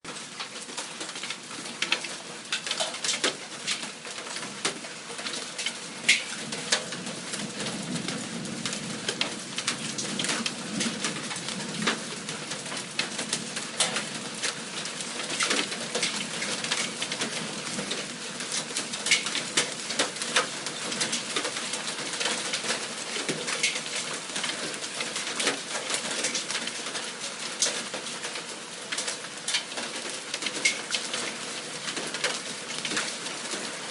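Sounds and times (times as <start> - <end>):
rain-like hiss: 0.1 - 33.9
hailstones striking surfaces: 0.3 - 33.8.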